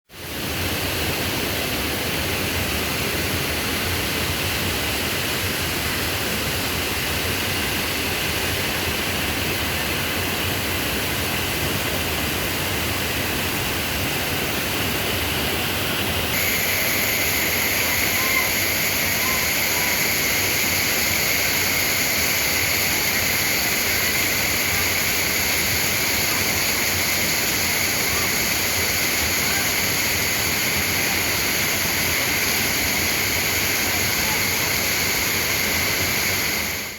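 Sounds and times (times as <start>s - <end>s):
waterfall rushing: 1.3s - 36.9s.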